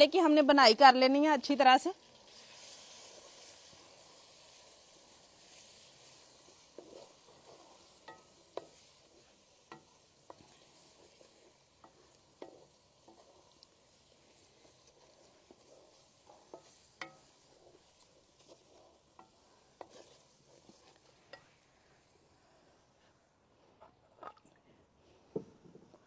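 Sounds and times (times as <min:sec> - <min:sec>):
faint sizzling in oil: 0:00.0 - 0:24.3.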